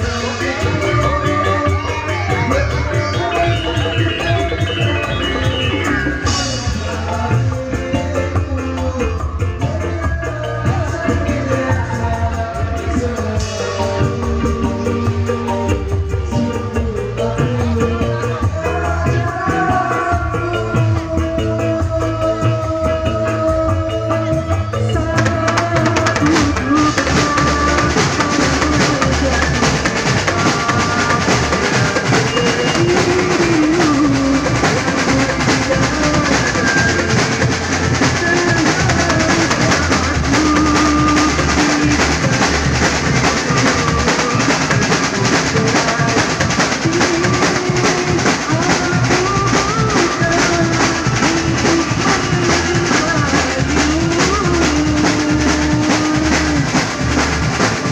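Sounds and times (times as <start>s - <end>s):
bass: 0.0s - 57.9s
drum kit beat: 0.0s - 57.9s
wavering instrumental melody: 0.0s - 57.9s.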